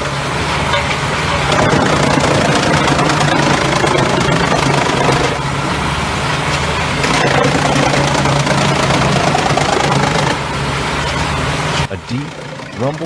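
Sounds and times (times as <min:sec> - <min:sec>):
wood chipper running: 0:00.0 - 0:13.0.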